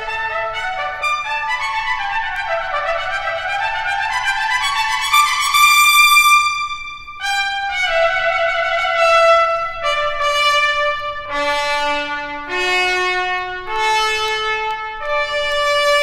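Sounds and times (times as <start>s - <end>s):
solo trumpet playing held notes: 0.0s - 16.0s.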